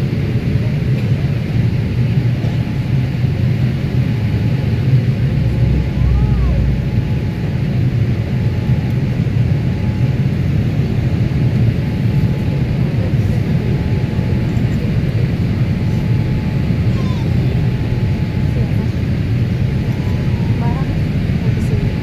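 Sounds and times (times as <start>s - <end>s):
airplane cabin jet engine rumble: 0.0s - 22.0s.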